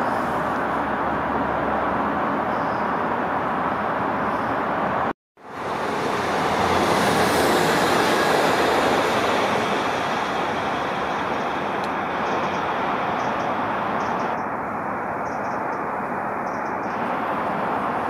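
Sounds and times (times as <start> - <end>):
train passing on rails: 0.0 - 18.0.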